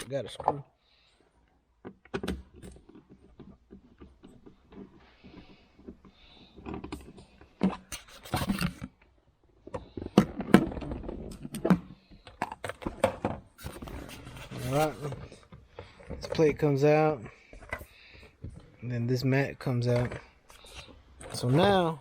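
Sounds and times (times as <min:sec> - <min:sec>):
plastic and metal clicks and scrapes: 0:00.0 - 0:00.6, 0:01.8 - 0:18.8, 0:19.6 - 0:21.9.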